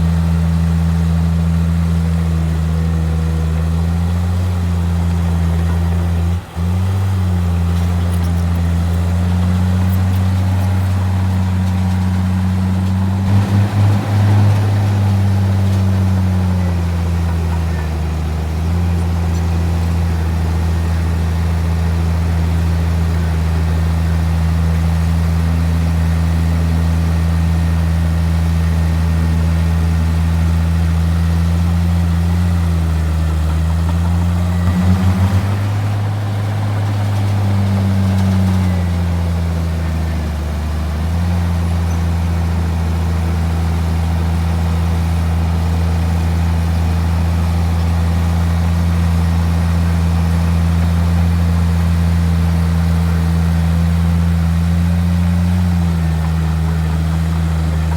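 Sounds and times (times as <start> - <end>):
bulldozer engine humming: 0.0 - 57.9.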